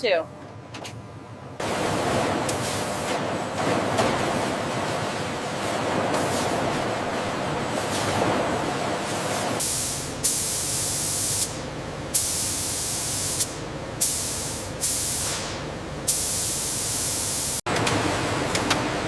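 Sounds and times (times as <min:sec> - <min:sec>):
machine hum: 0:00.0 - 0:14.8, 0:15.6 - 0:19.0.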